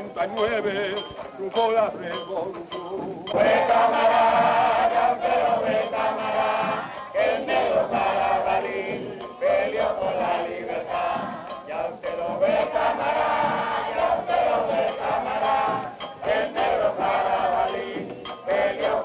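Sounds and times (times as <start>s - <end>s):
group of voices chanting: 3.3s - 19.0s.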